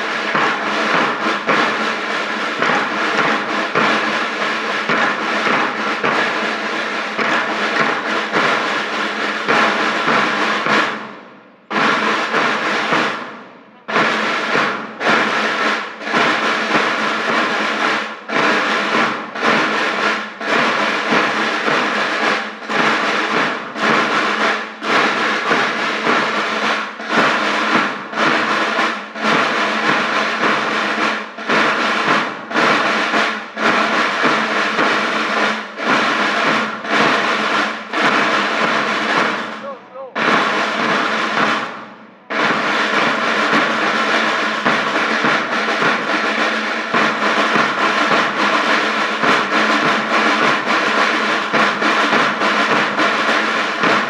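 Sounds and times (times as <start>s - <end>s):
drums: 0.0s - 54.0s.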